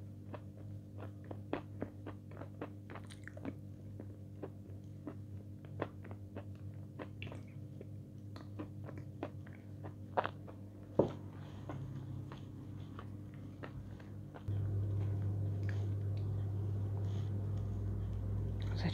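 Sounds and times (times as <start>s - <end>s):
steady low hum: 0.0s - 18.9s
wet chewing with mouth clicks: 0.2s - 18.6s.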